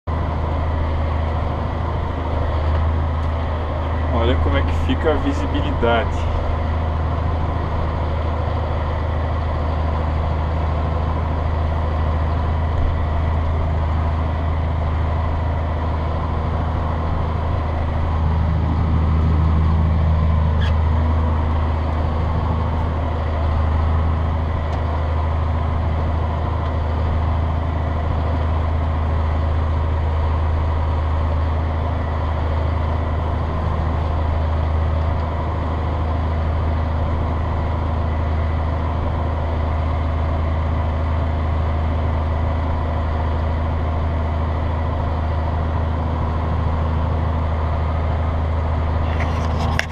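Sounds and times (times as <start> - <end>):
low mechanical drone: 0.0 - 49.9.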